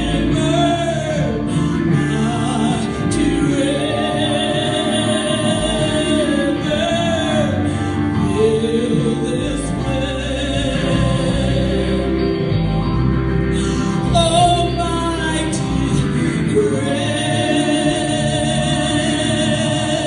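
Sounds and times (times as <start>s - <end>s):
woman singing: 0.0s - 12.6s, 13.7s - 20.0s
strummed electric guitar: 0.0s - 20.0s.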